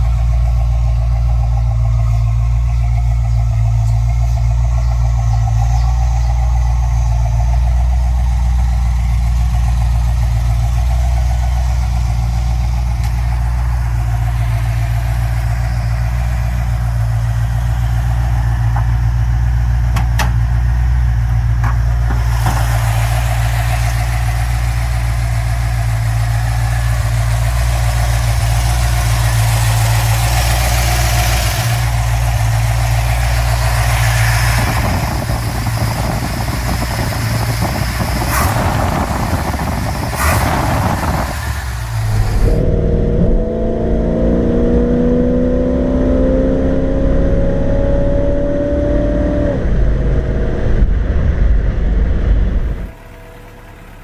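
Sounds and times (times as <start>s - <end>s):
car engine low rumble: 0.0s - 54.0s
engine accelerating: 0.0s - 54.0s.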